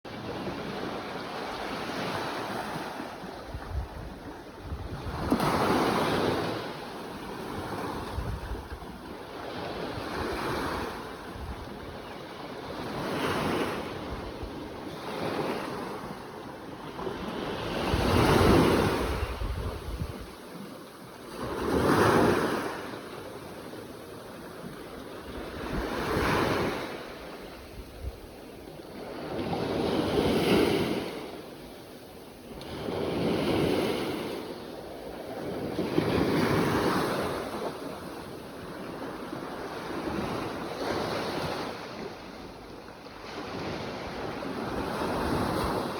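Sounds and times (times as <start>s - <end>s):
ocean waves breaking on shore: 0.1s - 45.9s.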